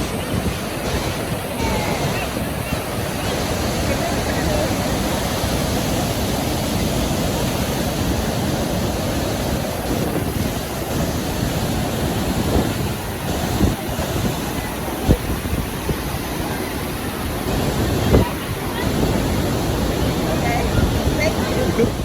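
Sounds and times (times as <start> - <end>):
waterfall roaring: 0.0 - 22.0
wind buffeting microphone: 0.0 - 22.0.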